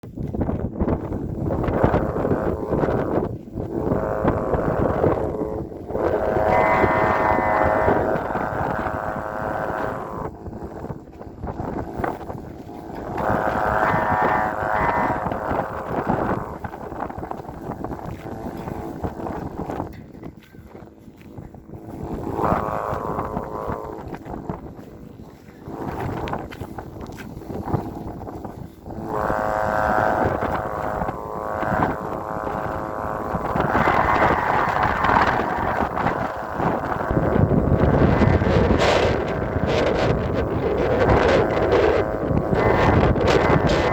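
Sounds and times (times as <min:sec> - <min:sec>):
kite hummer droning: 0:00.0 - 0:43.9
wind buffeting microphone: 0:00.0 - 0:43.9.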